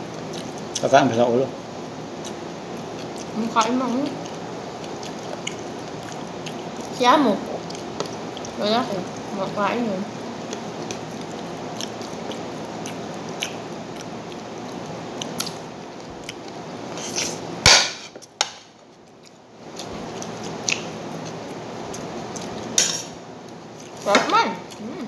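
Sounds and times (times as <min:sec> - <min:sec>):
person chewing food: 0:00.2 - 0:00.8, 0:02.2 - 0:07.0, 0:07.6 - 0:09.3, 0:10.2 - 0:24.0.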